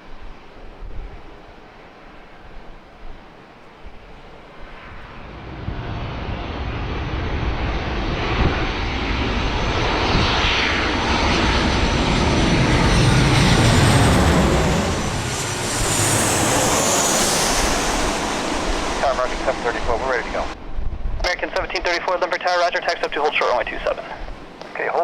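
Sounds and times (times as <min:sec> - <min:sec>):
jet airliner engines passing: 0:00.0 - 0:25.0
high engine whine: 0:01.6 - 0:25.0.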